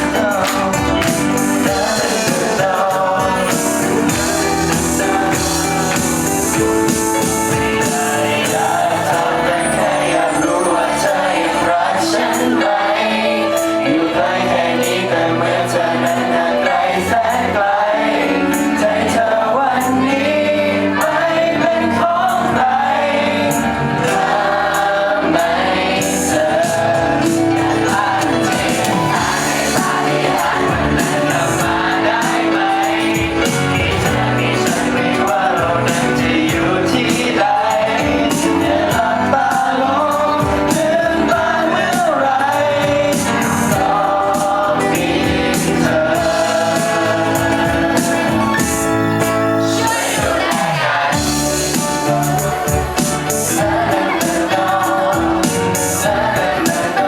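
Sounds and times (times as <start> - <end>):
instrumental accompaniment: 0.0 - 57.0
person singing: 0.0 - 57.0.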